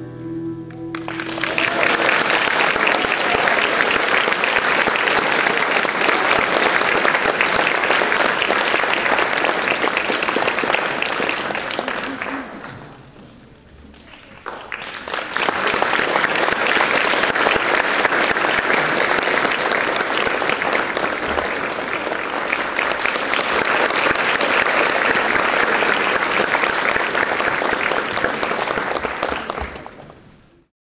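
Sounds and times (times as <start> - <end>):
audience applauding: 0.7 - 30.5.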